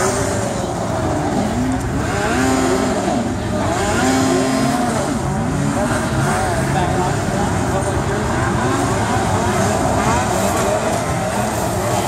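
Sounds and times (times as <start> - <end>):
snowmobile engines revving: 0.0 - 12.0.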